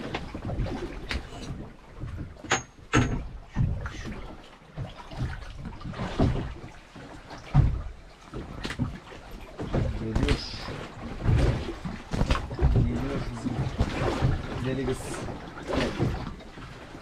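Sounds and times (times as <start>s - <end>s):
knocks and bumps on boat: 0.0s - 17.0s
water sloshing against hull: 0.0s - 17.0s.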